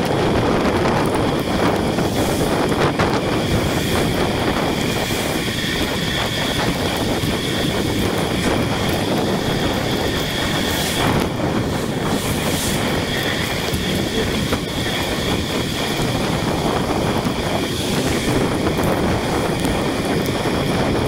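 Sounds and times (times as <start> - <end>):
traffic: 0.0 - 21.0
wet road noise: 0.0 - 21.0
wind rushing over microphone: 0.0 - 21.0.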